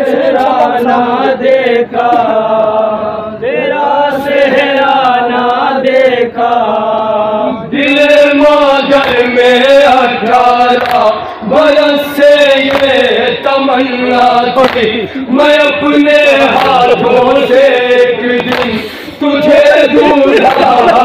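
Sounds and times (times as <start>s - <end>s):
men chanting over microphones: 0.0s - 21.0s.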